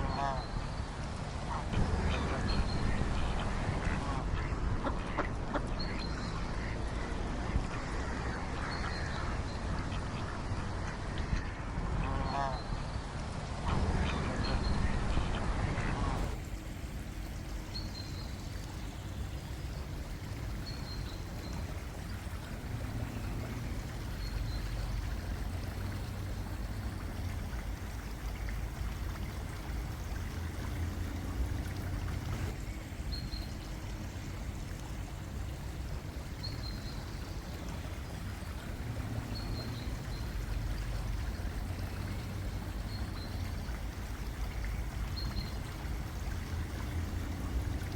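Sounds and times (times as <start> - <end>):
spring water flowing and trickling: 0.0 - 47.9.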